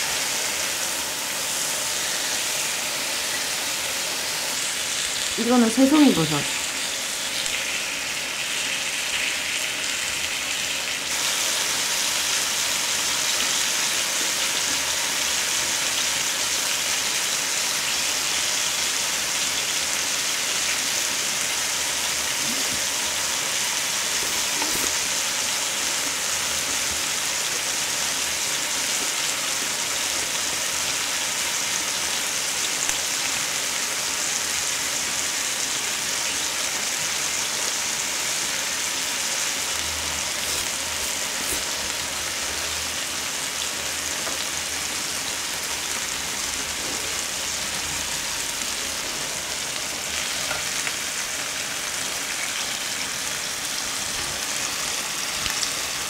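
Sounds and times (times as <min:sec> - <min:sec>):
meat and mushrooms sizzling on grill: 0:00.0 - 0:56.0.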